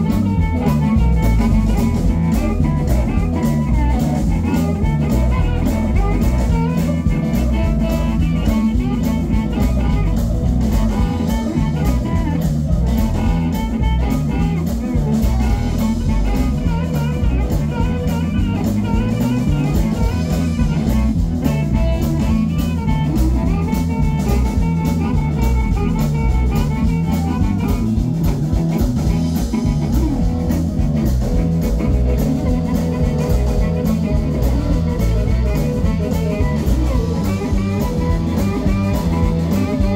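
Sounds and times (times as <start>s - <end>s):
amplified harmonica: 0.0s - 39.9s
blues band playing: 0.0s - 39.9s.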